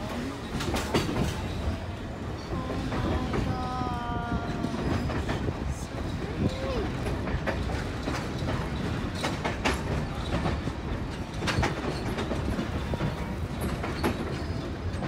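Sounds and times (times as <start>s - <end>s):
train rumbling on track: 0.0s - 15.0s
train wheels clicking and knocking: 0.0s - 15.0s.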